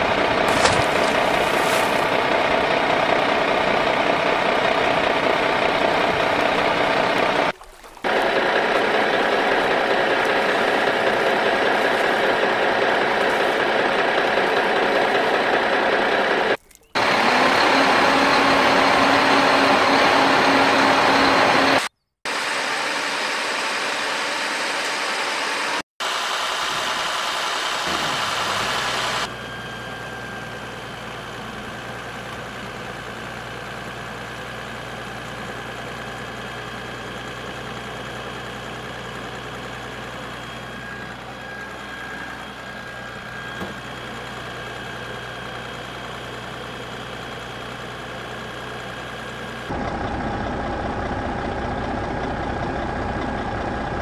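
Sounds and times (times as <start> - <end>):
engine-like running sound: 0.0 - 54.0.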